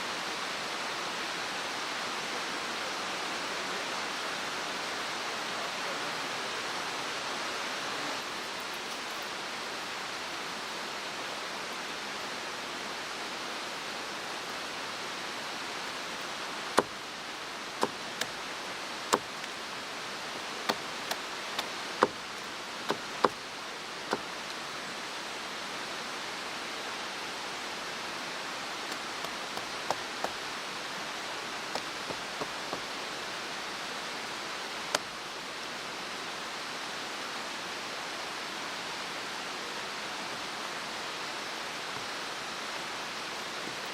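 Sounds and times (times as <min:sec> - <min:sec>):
mountain stream rushing: 0:00.0 - 0:43.9.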